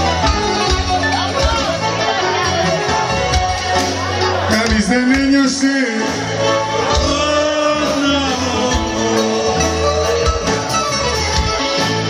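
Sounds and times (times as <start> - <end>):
steady bass: 0.0 - 12.0.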